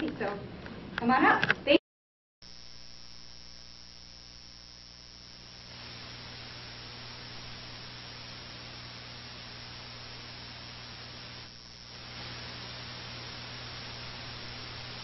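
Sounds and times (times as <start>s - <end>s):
electrical mains hum: 2.4s - 15.0s
even hiss: 2.4s - 15.0s.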